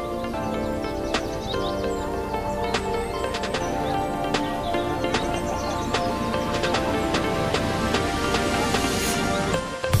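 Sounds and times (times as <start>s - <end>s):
sustained music notes: 0.0s - 10.0s.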